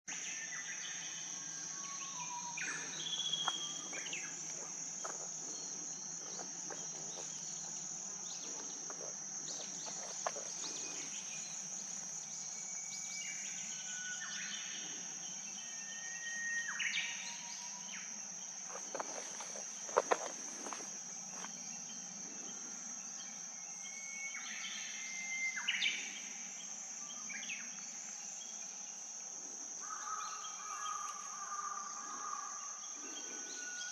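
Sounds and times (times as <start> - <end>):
high-pitched insect drone: 0.1 - 33.9.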